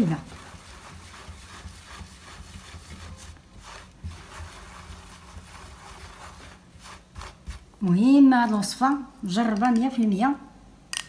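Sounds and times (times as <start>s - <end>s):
hands rubbing mixture in bowl: 0.0s - 10.0s.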